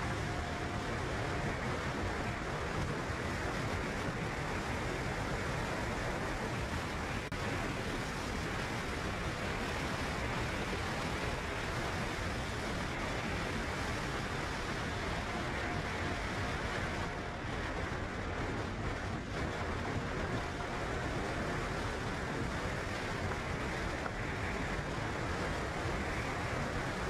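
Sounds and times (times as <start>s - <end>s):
surf washing on rocky shore: 0.0s - 27.0s
wind: 0.0s - 27.0s.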